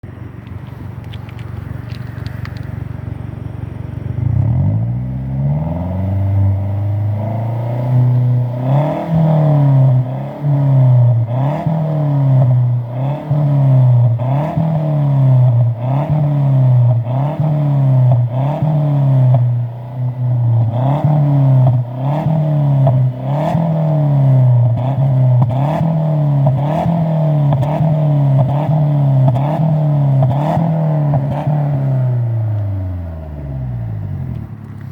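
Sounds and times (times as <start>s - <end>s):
car exhaust revving: 0.1s - 34.9s.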